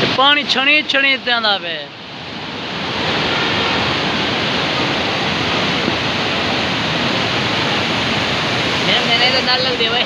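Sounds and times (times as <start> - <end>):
water rushing through sluice gates: 0.0 - 10.0.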